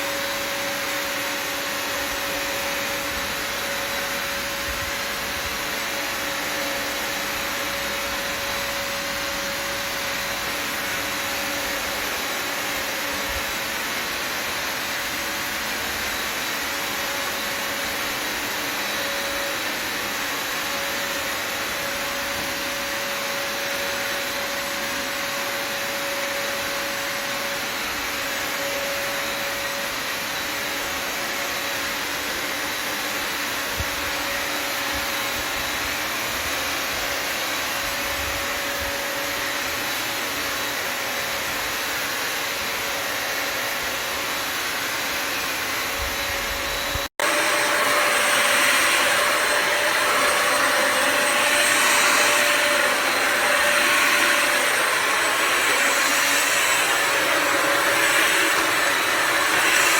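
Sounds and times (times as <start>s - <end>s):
vacuum motor running: 0.0s - 41.8s, 42.5s - 59.9s.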